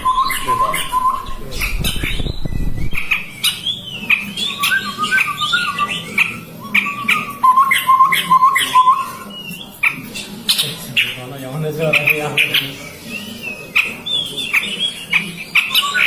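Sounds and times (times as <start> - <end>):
bird calling: 0.0 - 16.0.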